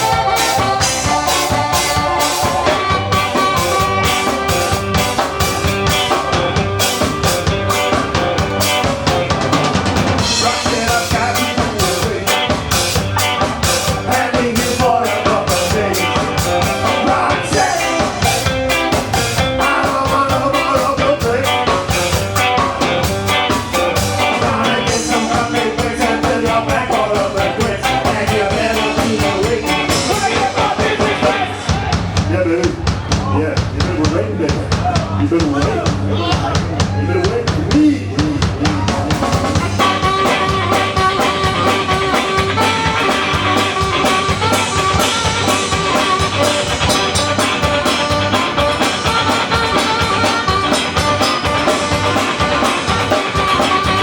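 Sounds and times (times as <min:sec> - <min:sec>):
brass instruments: 0:00.0 - 0:32.1, 0:38.7 - 0:54.0
drum kit beat: 0:00.0 - 0:54.0
live ska band playing: 0:00.0 - 0:54.0.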